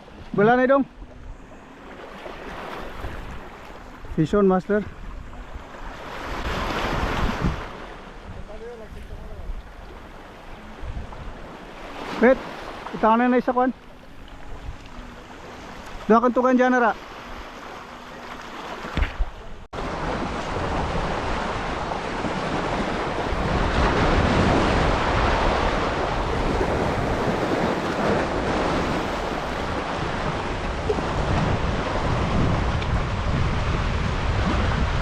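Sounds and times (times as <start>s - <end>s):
sea water rushing: 0.0s - 35.0s
wind buffeting microphone: 0.9s - 12.7s, 13.8s - 16.1s, 18.8s - 35.0s.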